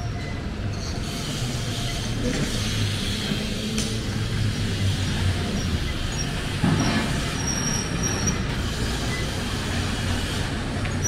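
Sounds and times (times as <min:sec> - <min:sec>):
city street traffic: 0:00.0 - 0:11.0
heavy vehicle engine rumbling: 0:00.0 - 0:11.0.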